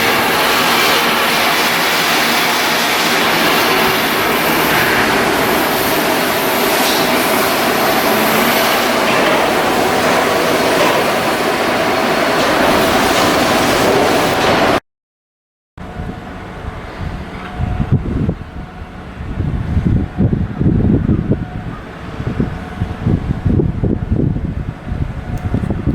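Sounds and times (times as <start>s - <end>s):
loud machinery noise: 0.0s - 14.8s, 15.8s - 25.9s.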